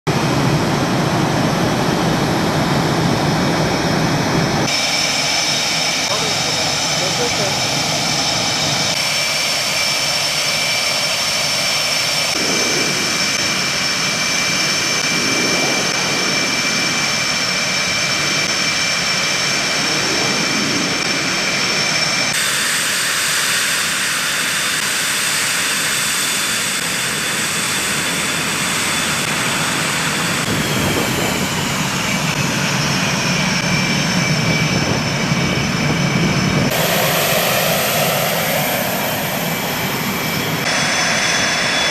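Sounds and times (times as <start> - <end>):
jet engines high whine: 0.1 - 41.9
rushing noise: 3.2 - 41.9.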